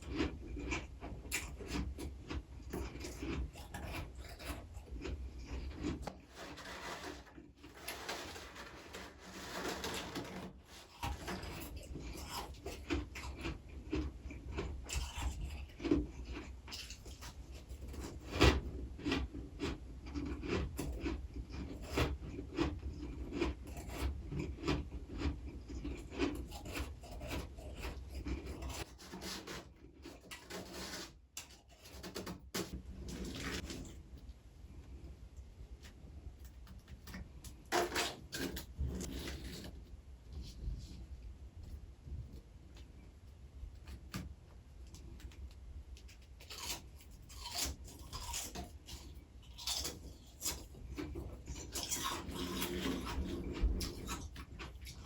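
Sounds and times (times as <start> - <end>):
chewing crunchy frost: 0.0 - 32.1, 35.8 - 39.9, 44.9 - 55.0.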